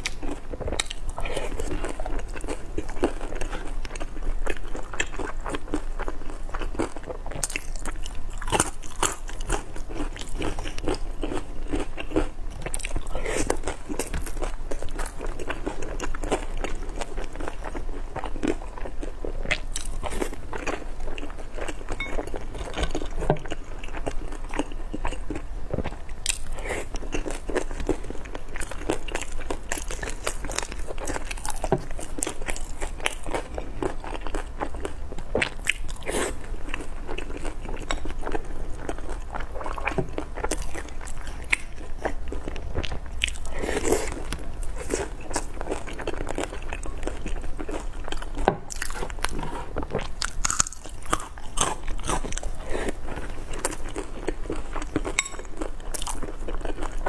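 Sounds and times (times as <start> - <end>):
crunching crisp buns: 0.0 - 57.0.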